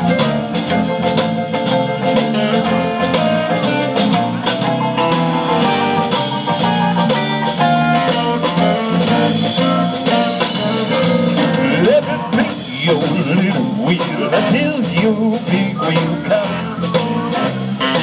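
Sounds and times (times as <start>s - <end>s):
live band playing instrumental: 0.0s - 18.0s
steady drum beat: 0.0s - 18.0s.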